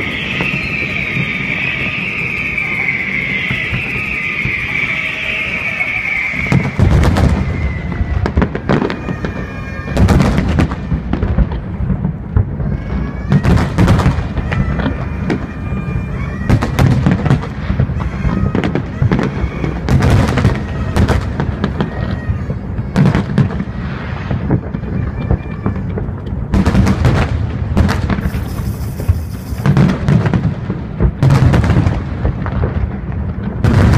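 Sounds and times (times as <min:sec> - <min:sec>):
fireworks booming and crackling: 0:00.0 - 0:33.9.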